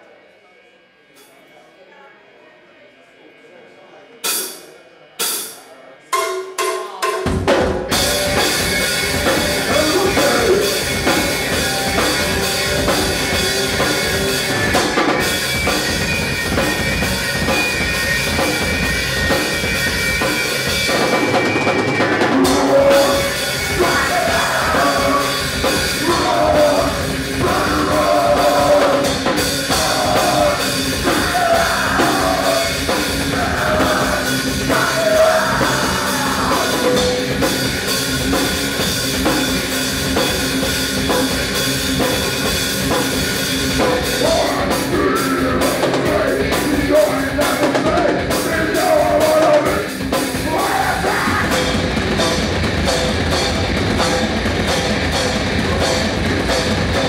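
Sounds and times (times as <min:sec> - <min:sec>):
live rock band playing: 0:06.2 - 0:57.0.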